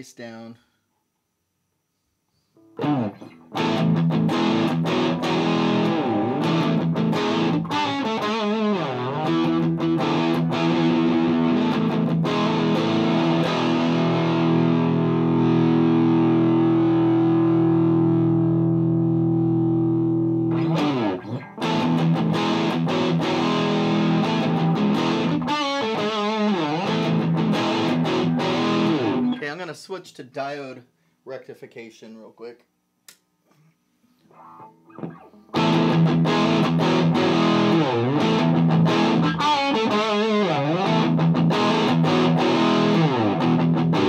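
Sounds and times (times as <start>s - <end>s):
distorted electric guitar riffs: 2.6s - 29.6s, 34.3s - 44.0s.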